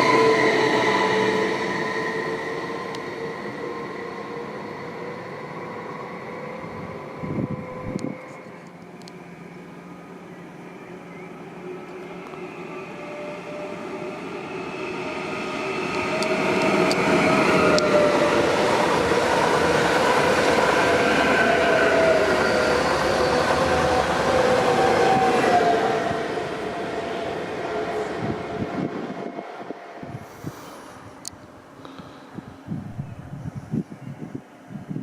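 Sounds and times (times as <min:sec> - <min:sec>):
wavering whine: 0:00.0 - 0:30.2
train running on rails: 0:00.0 - 0:35.0.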